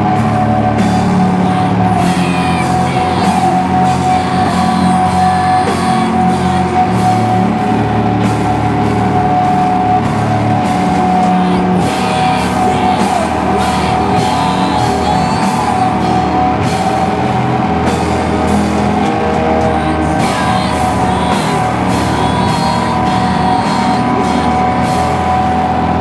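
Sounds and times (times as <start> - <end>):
distorted guitars: 0.0 - 26.0
drum kit: 0.0 - 26.0
long high tone: 0.0 - 26.0
rock band playing live: 0.0 - 26.0.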